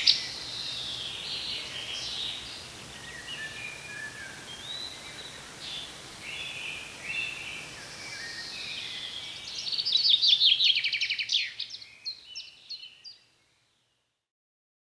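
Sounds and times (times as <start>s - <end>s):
songbirds singing: 0.0s - 14.1s.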